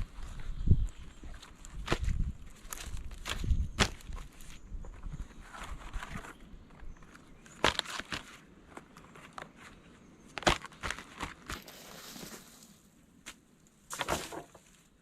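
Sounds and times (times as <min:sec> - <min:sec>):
leaves rustling: 0:00.0 - 0:14.9
twigs and leaves crunching underfoot: 0:00.0 - 0:15.0.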